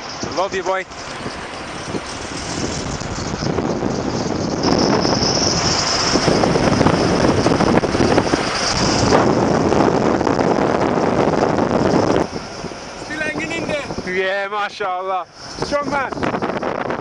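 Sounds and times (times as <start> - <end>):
wind and road rushing: 0.0 - 17.0.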